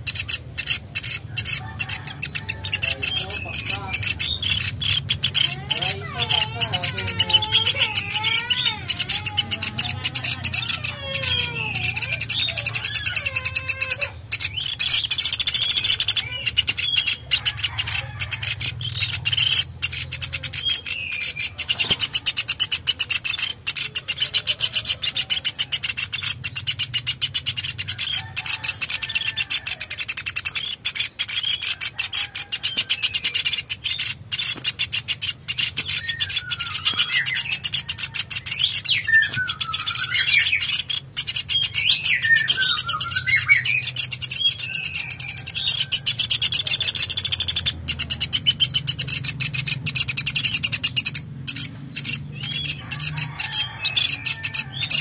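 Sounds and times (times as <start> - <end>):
birds chirping: 0.0 - 55.0
sliding whistled bird calls: 0.0 - 55.0.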